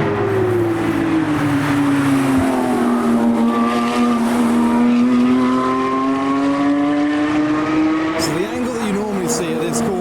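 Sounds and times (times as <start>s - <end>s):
race car engine: 0.0s - 10.0s.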